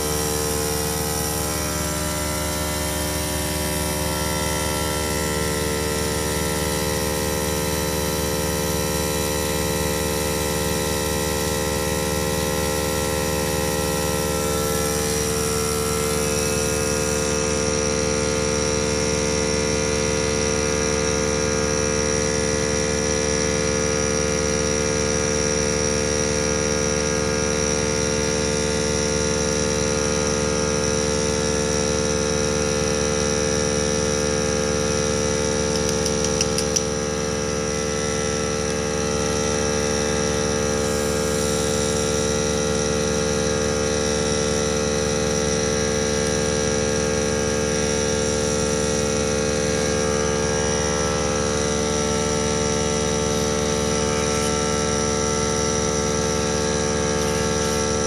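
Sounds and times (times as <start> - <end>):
steady machine hum: 0.0 - 24.6, 32.0 - 58.0.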